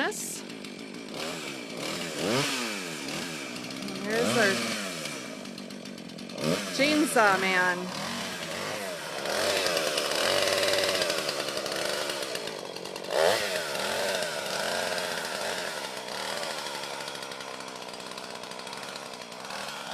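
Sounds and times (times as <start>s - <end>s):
chainsaw engine revving: 0.0s - 19.9s.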